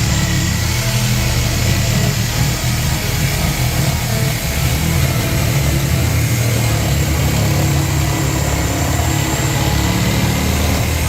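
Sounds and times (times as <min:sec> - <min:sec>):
reciprocating saw cutting: 0:00.0 - 0:11.0.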